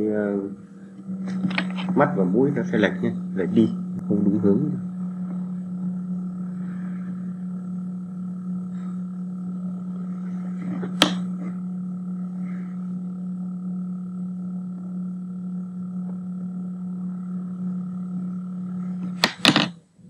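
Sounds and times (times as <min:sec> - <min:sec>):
faint high tone: 0:00.0 - 0:19.3
low hum: 0:00.0 - 0:20.0.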